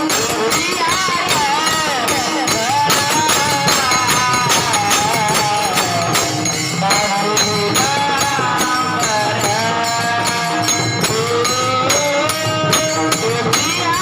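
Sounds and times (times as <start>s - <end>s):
jingling hand cymbals: 0.0s - 14.0s.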